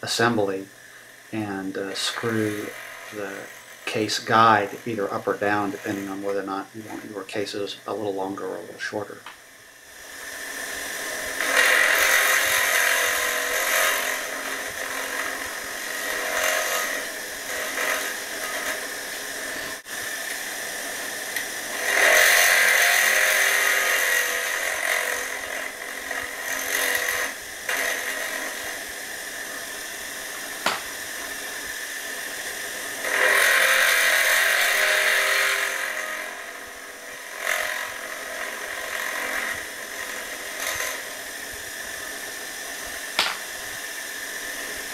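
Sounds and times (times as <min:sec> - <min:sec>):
electric motor running: 0:00.0 - 0:09.1, 0:09.7 - 0:44.9
cutter trimming brass cases: 0:01.6 - 0:08.0, 0:11.1 - 0:41.2, 0:43.2 - 0:43.6.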